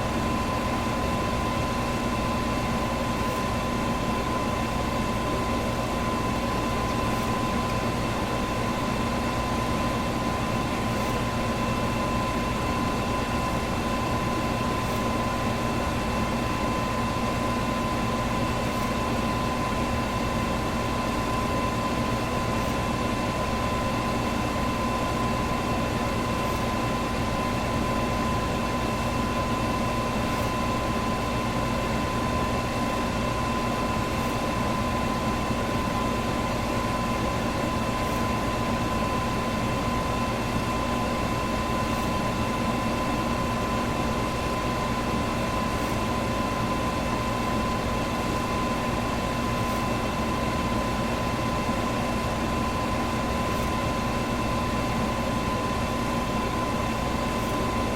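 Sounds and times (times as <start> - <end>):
electric fan running: 0.0 - 57.9.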